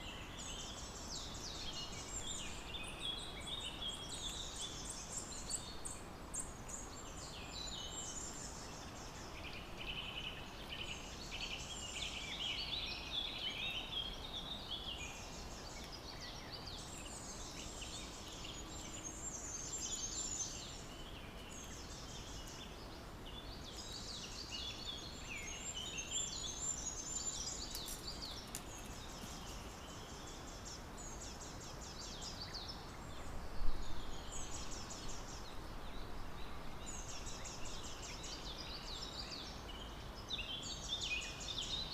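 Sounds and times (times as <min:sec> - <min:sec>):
background hiss: 0:00.0 - 0:41.9.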